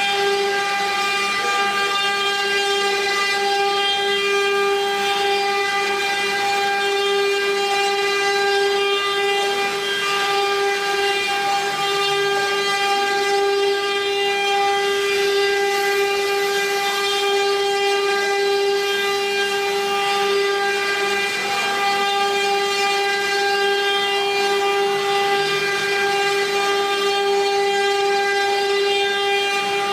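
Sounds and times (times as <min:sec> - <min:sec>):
router spindles whining: 0:00.0 - 0:29.9.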